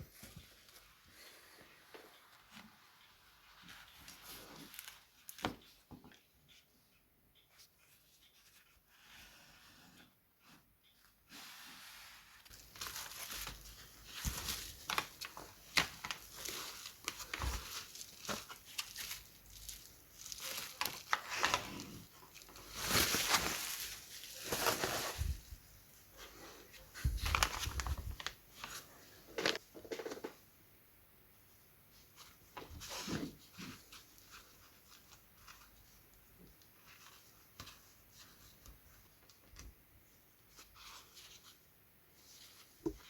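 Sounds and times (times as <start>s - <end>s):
materials rustling and crinkling: 0.0s - 6.7s, 7.4s - 30.4s, 31.5s - 43.0s.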